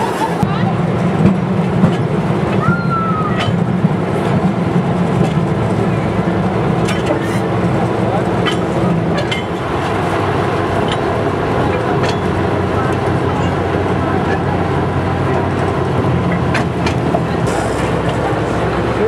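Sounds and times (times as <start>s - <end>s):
diesel engine drone: 0.0s - 19.0s
train rattling: 0.0s - 19.0s
wheels clicking and knocking: 0.4s - 19.0s.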